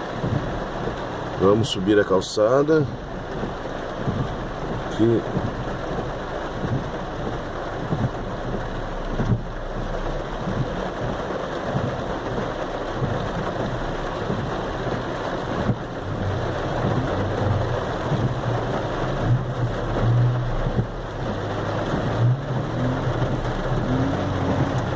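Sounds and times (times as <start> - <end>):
car engine humming: 0.0 - 24.9
heavy rain on a car: 0.0 - 24.9.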